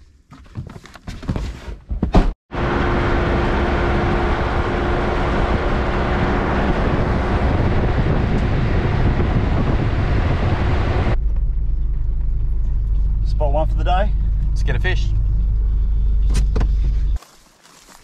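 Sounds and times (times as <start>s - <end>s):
vehicle driving on dirt track: 2.5s - 17.2s.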